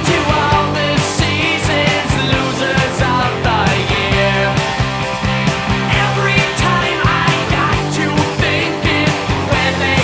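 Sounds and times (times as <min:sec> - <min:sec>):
person singing: 0:00.0 - 0:04.9, 0:05.9 - 0:10.0
distorted guitar: 0:00.0 - 0:10.0
rock music: 0:00.0 - 0:10.0
steady drum beat: 0:00.0 - 0:10.0.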